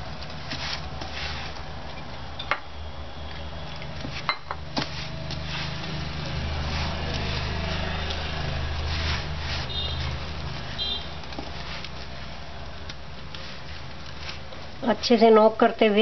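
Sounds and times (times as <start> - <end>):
hands kneading dough squishing: 0.0 - 2.4, 3.1 - 16.0.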